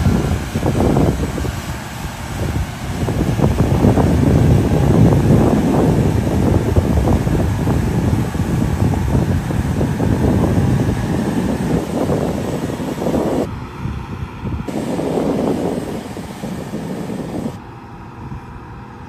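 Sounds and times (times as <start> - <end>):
wind on microphone: 0.0 - 18.7
tractor diesel engine under load: 0.0 - 19.0.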